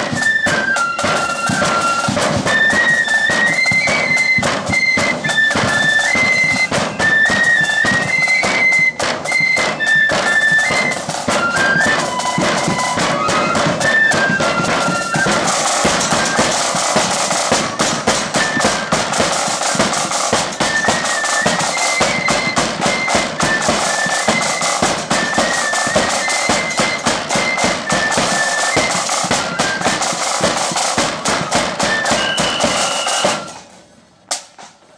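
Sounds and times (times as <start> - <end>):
flutes playing melody: 0.0 - 33.8
steady drumming: 0.0 - 34.8.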